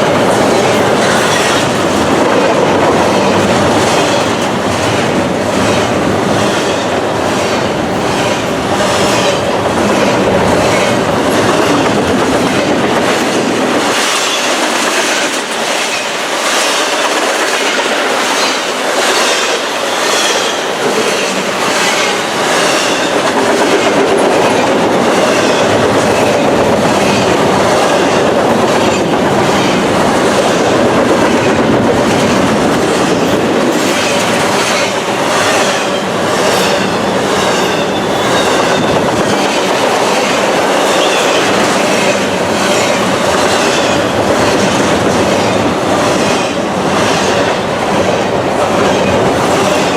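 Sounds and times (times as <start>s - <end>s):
train running noise: 0.0s - 49.9s
train wheels clicking over rail joints: 0.0s - 49.9s.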